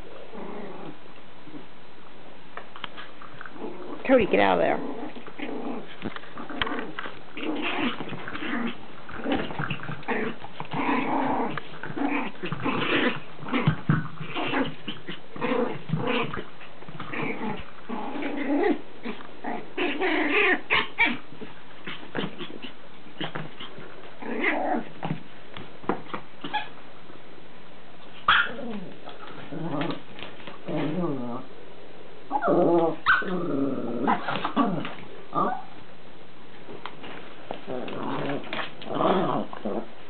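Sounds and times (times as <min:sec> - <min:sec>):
puppy play-growling: 0:00.0 - 0:01.7, 0:02.6 - 0:26.8, 0:28.0 - 0:31.6, 0:32.3 - 0:35.9, 0:36.6 - 0:40.0.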